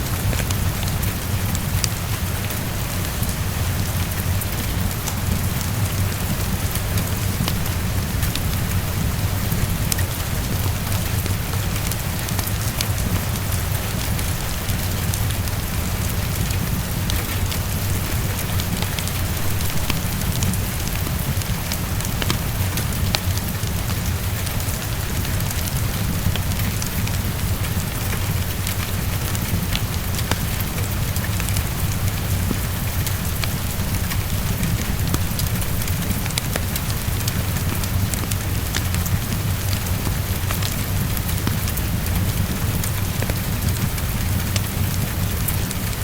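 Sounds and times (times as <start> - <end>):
heavy rain falling: 0.0 - 46.0
fireplace crackling: 0.1 - 46.0.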